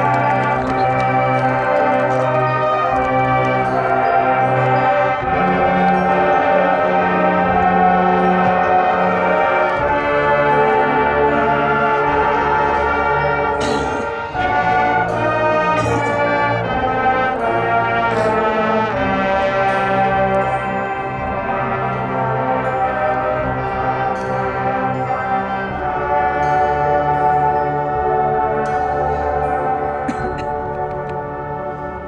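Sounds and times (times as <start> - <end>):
sharp percussion hits: 0.0 - 27.1
marching band brass chords: 0.0 - 32.0.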